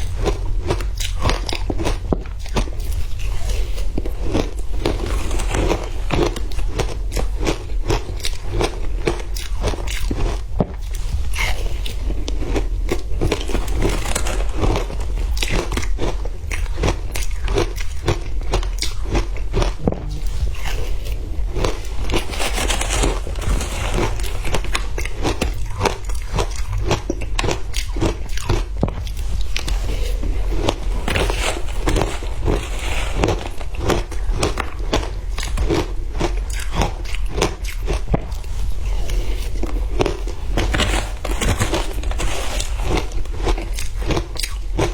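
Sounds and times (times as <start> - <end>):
person chewing frozen ice: 0.0 - 44.9.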